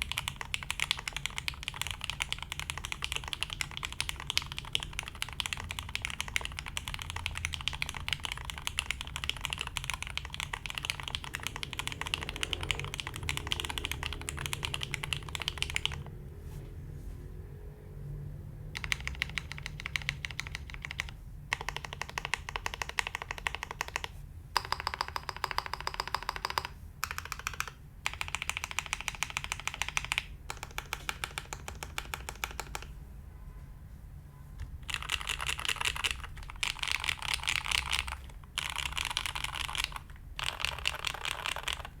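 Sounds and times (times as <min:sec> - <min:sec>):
mechanical keyboard typing: 0:00.0 - 0:16.1, 0:18.7 - 0:33.0, 0:34.8 - 0:42.0.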